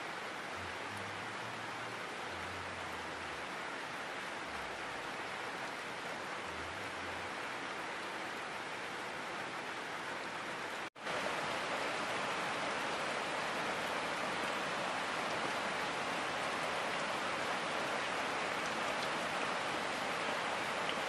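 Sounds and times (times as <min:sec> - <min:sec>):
rain falling on foliage: 0:00.0 - 0:21.0.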